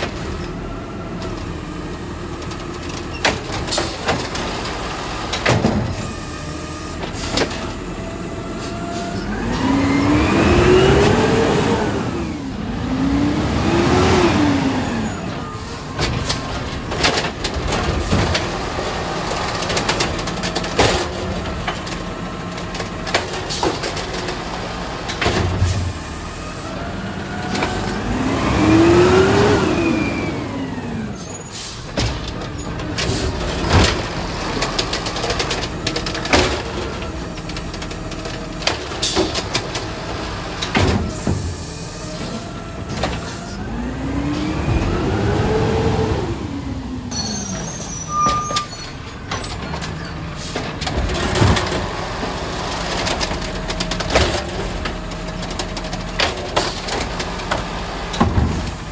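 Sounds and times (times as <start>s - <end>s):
truck engine revving: 0.0s - 47.7s.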